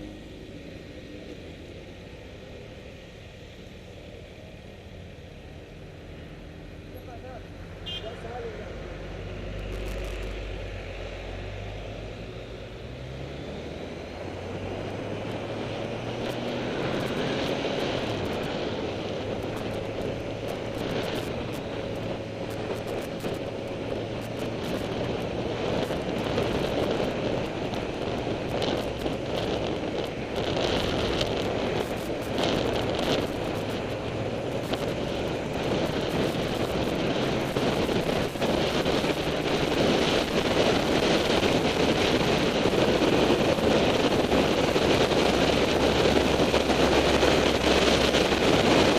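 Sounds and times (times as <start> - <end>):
motorcycle engine accelerating: 7.8 - 48.9
wind buffeting microphone: 9.0 - 48.9.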